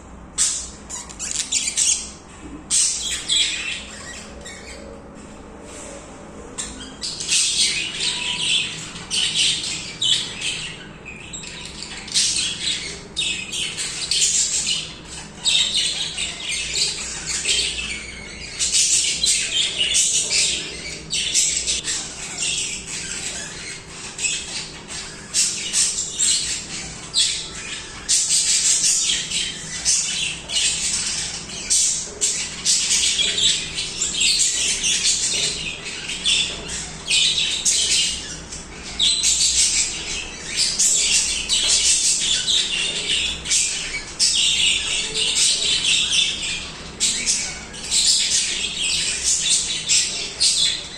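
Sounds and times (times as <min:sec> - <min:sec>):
budgerigars chirping: 0:00.4 - 0:05.0, 0:06.5 - 0:50.9.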